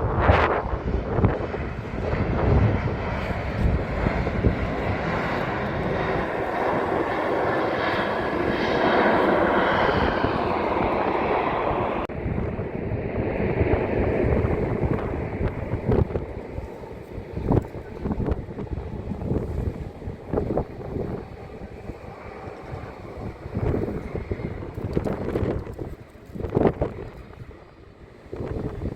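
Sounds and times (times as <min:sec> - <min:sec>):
airliner engines roaring: 0:00.0 - 0:28.9
wind buffeting microphone: 0:00.0 - 0:28.9.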